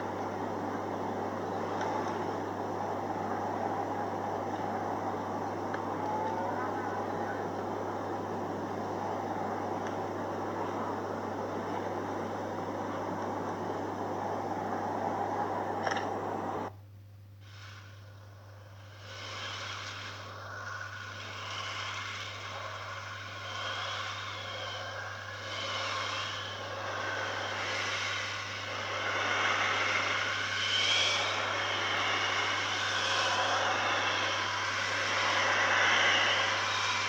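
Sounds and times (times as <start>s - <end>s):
distant warning siren: 0.0s - 16.7s, 23.4s - 37.0s
outdoor noise: 0.0s - 37.0s.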